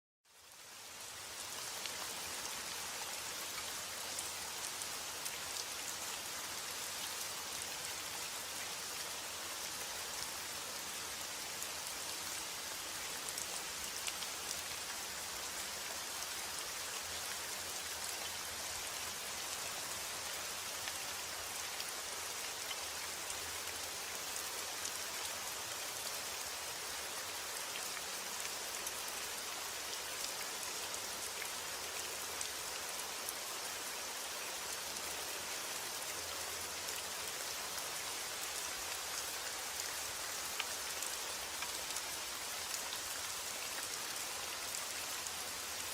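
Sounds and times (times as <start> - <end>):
steady rain hiss: 0.3 - 45.9.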